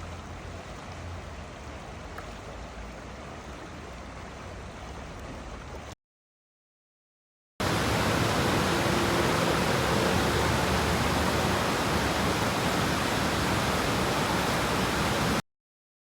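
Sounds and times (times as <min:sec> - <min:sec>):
fast-flowing river water: 0:00.0 - 0:05.9, 0:07.6 - 0:15.4.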